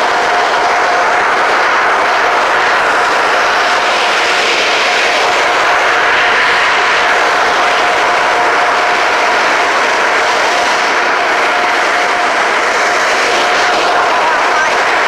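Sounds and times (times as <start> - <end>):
car wash machinery rushing: 0.0 - 15.0
thin steady whine: 0.0 - 15.0.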